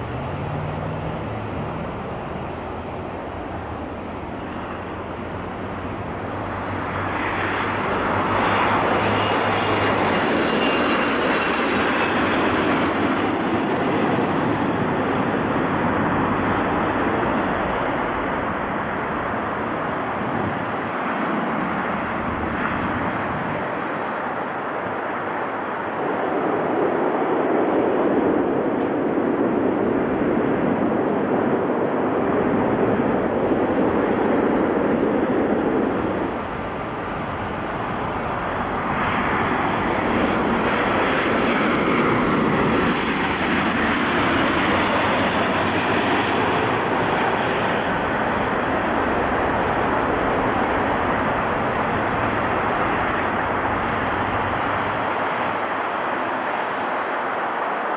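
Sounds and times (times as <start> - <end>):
jet engines rushing: 0.0 - 57.9.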